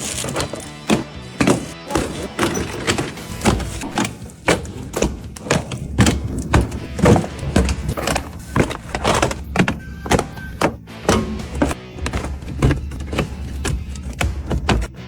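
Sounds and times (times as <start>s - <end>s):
background music: 0.0s - 15.0s
rapid knocks and thuds: 0.0s - 15.0s.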